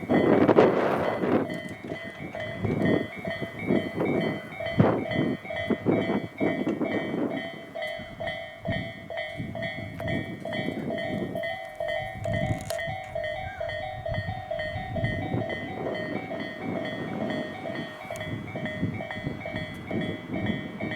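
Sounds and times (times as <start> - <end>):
level crossing bell clanging: 0.0 - 20.9
train wheels rumbling and knocking: 0.0 - 20.9.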